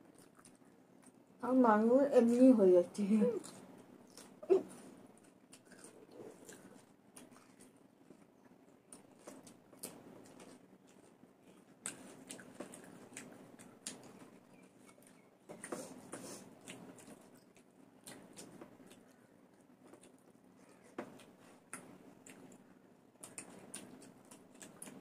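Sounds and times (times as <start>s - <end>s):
people chewing and smacking: 0.0s - 1.4s, 3.2s - 25.0s.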